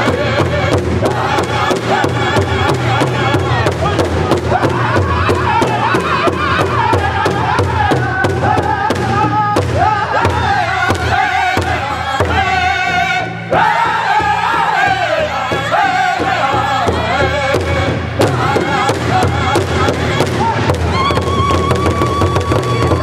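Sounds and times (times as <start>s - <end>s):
drummers striking a large drum: 0.0s - 23.0s
men singing in high voices: 0.0s - 23.0s
women singing along: 0.0s - 23.0s.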